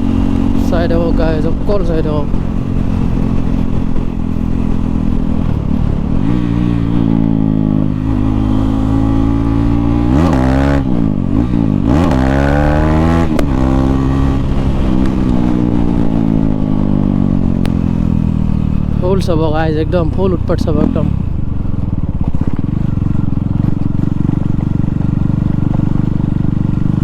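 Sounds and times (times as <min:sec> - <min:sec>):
motorcycle engine without exhaust: 0:00.0 - 0:27.0.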